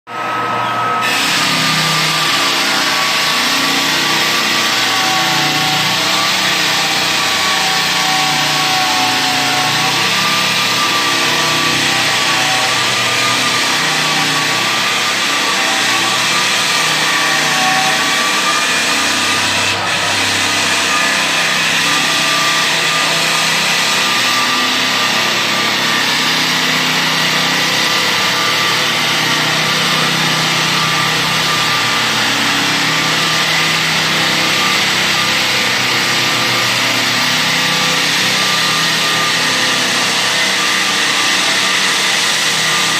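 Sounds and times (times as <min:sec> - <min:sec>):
power sander sanding wood: 0:00.9 - 0:42.9.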